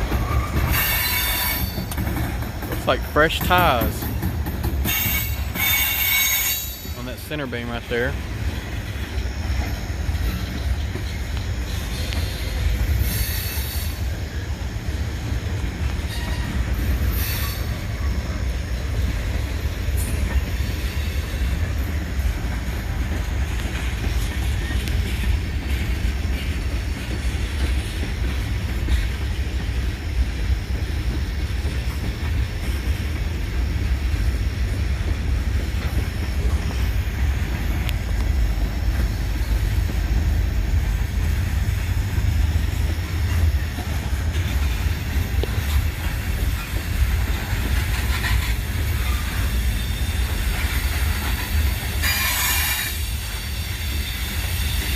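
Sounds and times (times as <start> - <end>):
freight train wheels rumbling: 0.0 - 54.9.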